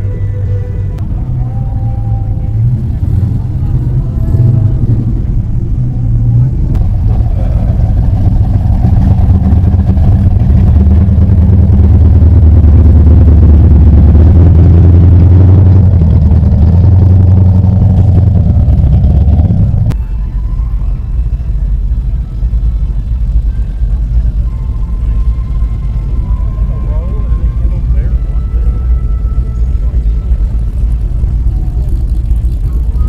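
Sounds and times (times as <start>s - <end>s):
car engine exhaust rumble: 0.0s - 33.0s.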